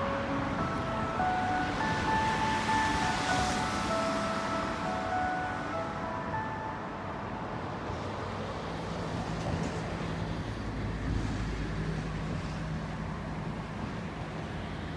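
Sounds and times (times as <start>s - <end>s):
outdoor background noise: 0.0s - 14.9s.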